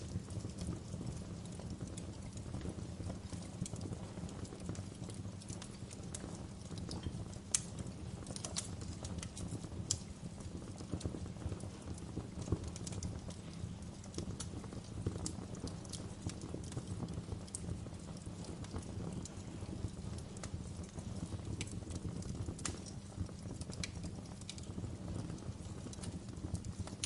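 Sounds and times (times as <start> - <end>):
wood fire crackling in fireplace: 0.0 - 27.0.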